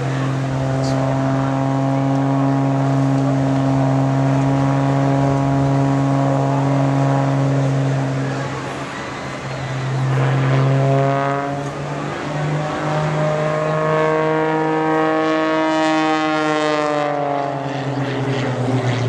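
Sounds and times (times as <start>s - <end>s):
propeller plane engine droning: 0.0s - 19.0s
steady low hum: 0.0s - 19.0s.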